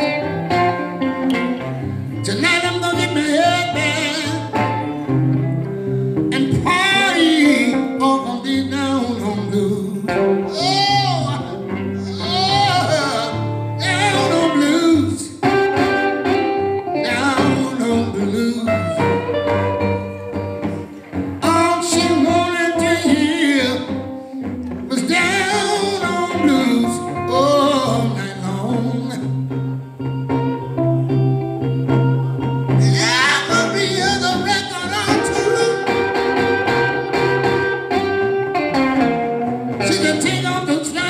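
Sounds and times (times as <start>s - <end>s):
electric guitar: 0.0s - 41.0s
man singing blues with vibrato: 0.0s - 41.0s.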